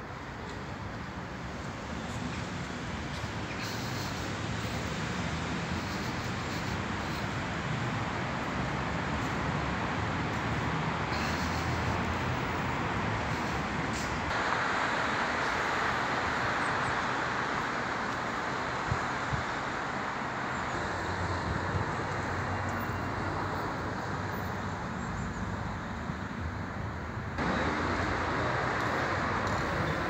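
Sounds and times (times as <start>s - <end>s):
road traffic hum: 0.0s - 30.0s.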